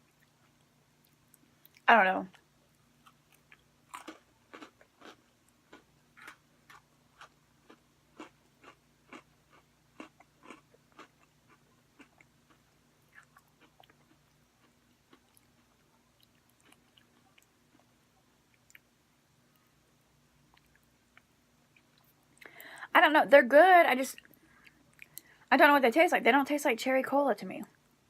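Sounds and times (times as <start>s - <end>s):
crunchy cookies being chewed: 0.0s - 22.7s.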